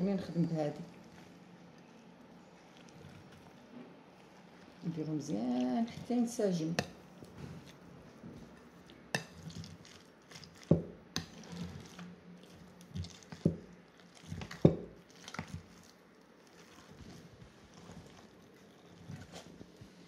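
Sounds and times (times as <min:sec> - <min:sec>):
spoon stirring wet mixture: 0:00.0 - 0:20.0.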